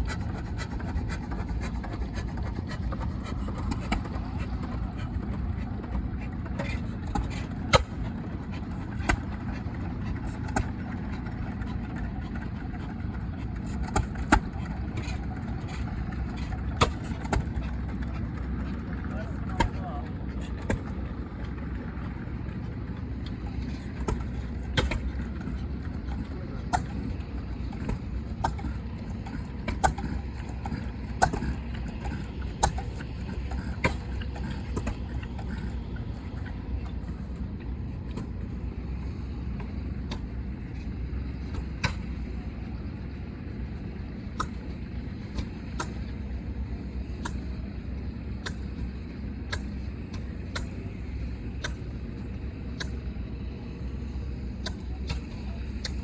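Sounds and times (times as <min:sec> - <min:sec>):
engine rumbling: 0:00.0 - 0:56.0.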